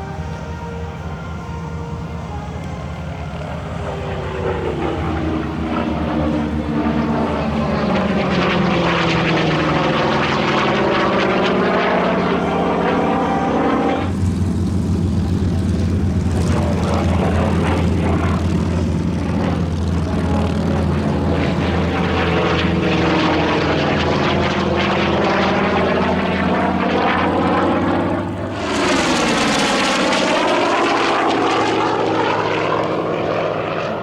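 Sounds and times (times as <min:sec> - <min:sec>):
dull low drone: 0:00.0 - 0:34.0
propeller plane flyby: 0:00.0 - 0:34.0.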